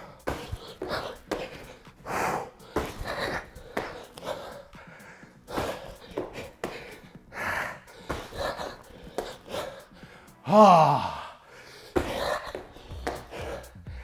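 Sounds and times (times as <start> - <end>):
man breathing heavily: 0.0 - 14.0.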